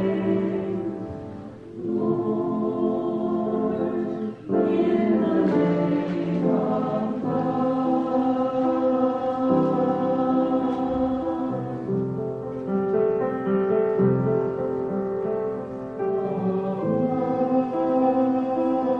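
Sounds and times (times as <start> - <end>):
choir singing sustained chords: 0.0 - 12.4, 15.7 - 18.9.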